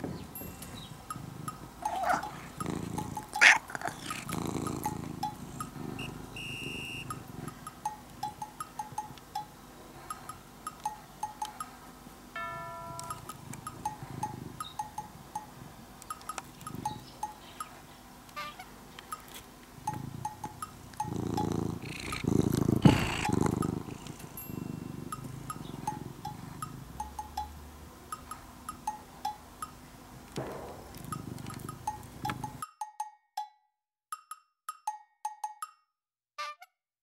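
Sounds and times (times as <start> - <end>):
cat purring: 0.0 - 32.6.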